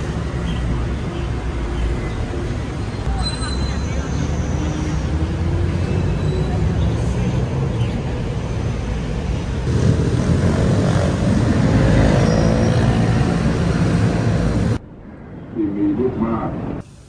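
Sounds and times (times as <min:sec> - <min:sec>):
city road traffic rumble: 0:00.0 - 0:17.0.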